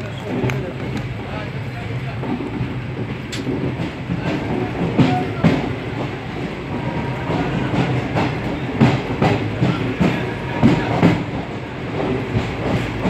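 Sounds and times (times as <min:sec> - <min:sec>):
train rumbling: 0:00.0 - 0:13.0
wheels clacking over rail joints: 0:00.0 - 0:13.0.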